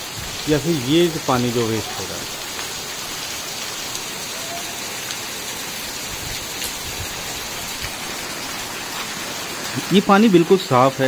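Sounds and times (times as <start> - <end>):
rain splashing on ground and roofs: 0.0 - 11.0.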